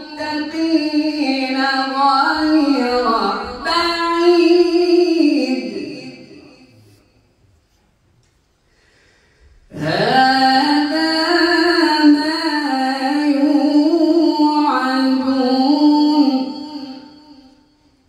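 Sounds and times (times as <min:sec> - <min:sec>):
man reciting melodically: 0:00.0 - 0:07.2, 0:09.7 - 0:17.6.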